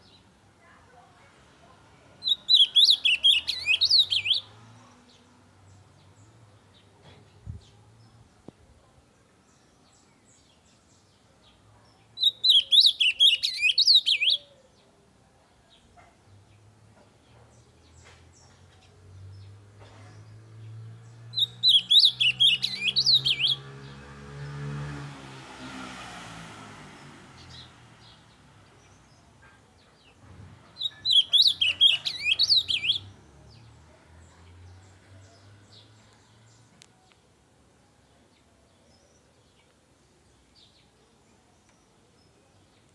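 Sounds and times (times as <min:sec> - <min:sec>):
bird singing warbled phrases: 0:02.0 - 0:24.5, 0:27.0 - 0:42.9.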